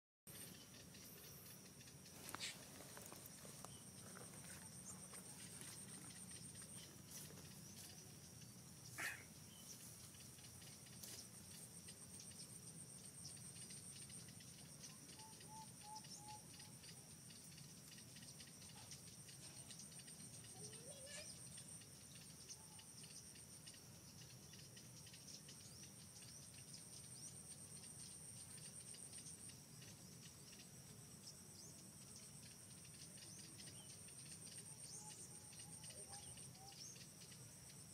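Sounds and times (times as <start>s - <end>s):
insects chirring: 0.3s - 37.9s.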